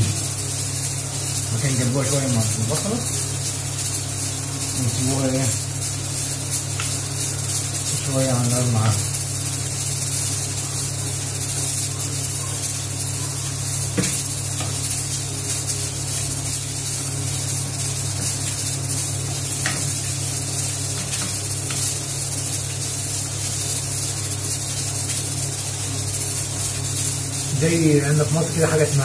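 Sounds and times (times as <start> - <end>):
onions and meat sizzling: 0.0 - 29.0
steady low hum: 0.0 - 29.0.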